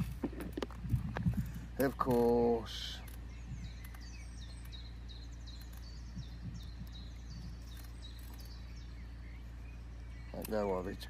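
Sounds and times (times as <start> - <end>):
low outdoor rumble: 0.0 - 11.0
songbird singing high notes: 1.7 - 11.0.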